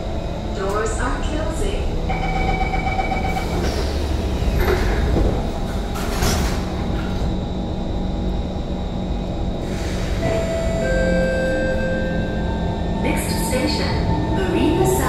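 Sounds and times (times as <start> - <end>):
train doors closing: 0.0 - 7.6, 9.6 - 15.0
train low hum: 0.0 - 15.0.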